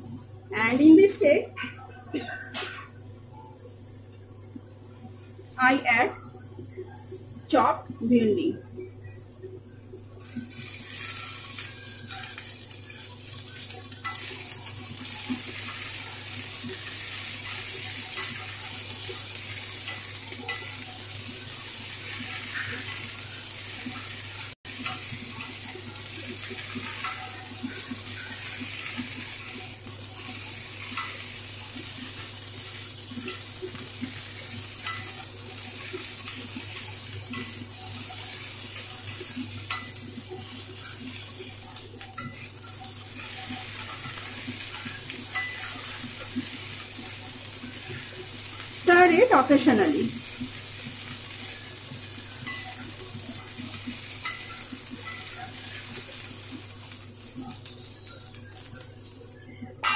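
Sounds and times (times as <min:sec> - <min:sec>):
food sizzling in oil: 0:00.0 - 0:59.9.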